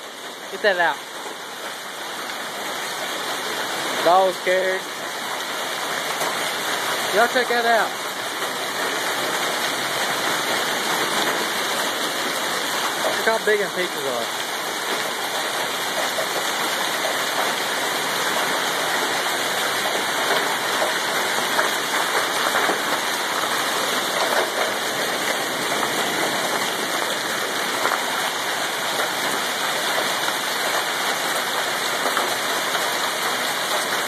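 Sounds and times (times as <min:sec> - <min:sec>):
hailstones striking the ground: 0:00.0 - 0:34.0
rain falling: 0:00.0 - 0:34.0.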